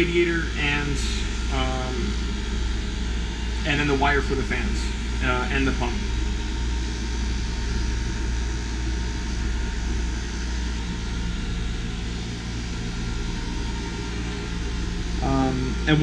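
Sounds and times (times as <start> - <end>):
fans whirring: 0.0 - 16.0
low hum: 0.0 - 16.0.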